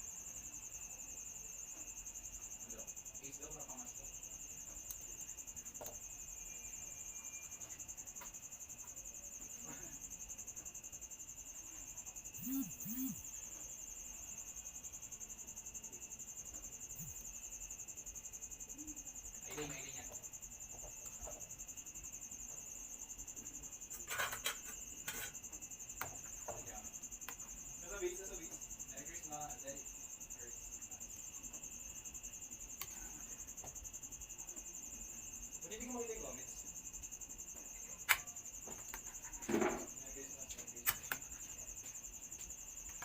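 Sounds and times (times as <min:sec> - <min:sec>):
crickets trilling: 0:00.0 - 0:43.0.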